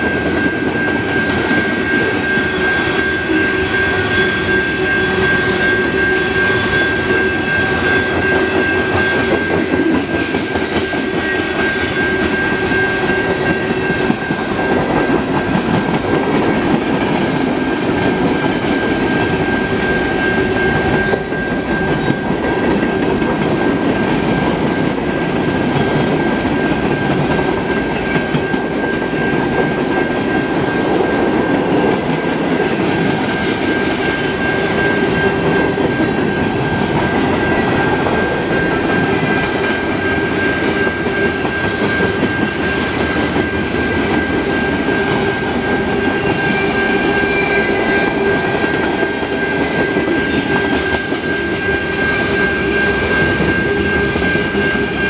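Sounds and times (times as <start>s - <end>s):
high-pitched ring: 0.0s - 55.0s.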